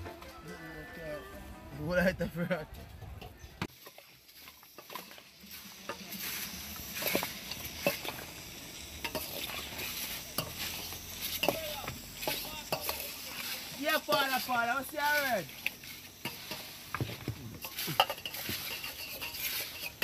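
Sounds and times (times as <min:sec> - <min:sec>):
spoon clinking and scraping bowl: 0:03.7 - 0:20.0.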